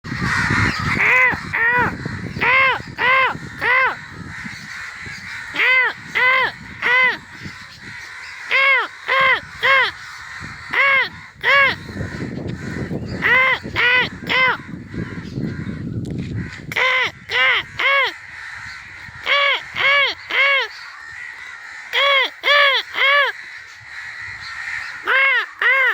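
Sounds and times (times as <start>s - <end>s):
crows cawing: 0.1s - 25.9s.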